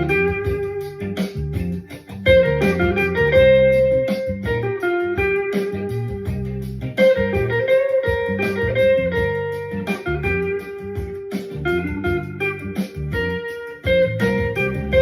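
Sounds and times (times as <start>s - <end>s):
electric guitar blues lead: 0.0s - 15.0s
funky backing track with bass: 0.0s - 15.0s
steady drum beat: 0.0s - 15.0s.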